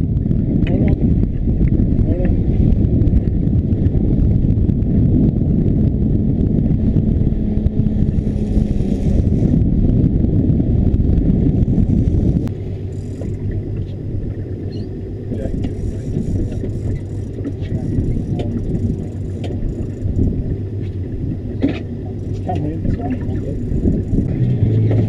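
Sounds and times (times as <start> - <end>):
outboard motor running: 0.0 - 25.0
water churning and rushing: 0.0 - 25.0.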